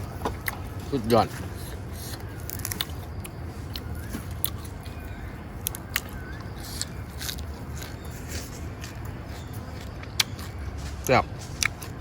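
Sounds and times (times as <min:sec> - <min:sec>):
person chewing food: 0:01.3 - 0:05.0, 0:05.6 - 0:12.0.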